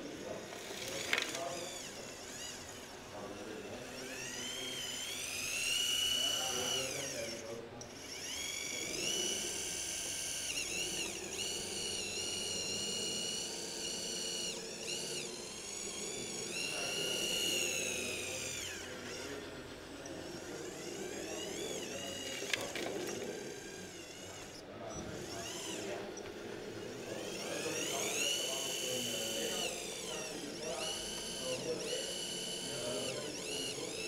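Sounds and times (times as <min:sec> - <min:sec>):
electric motor and gearbox whining: 0:00.0 - 0:34.0.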